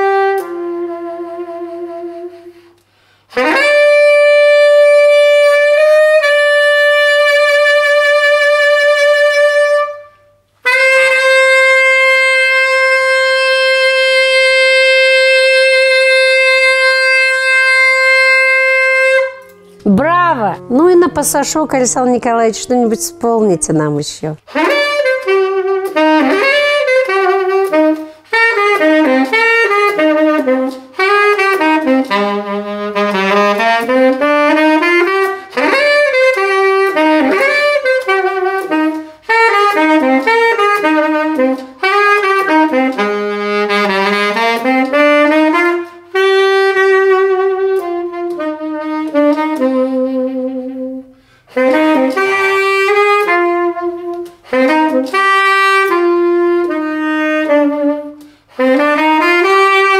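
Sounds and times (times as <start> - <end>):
saxophone melody: 0.0 - 59.9.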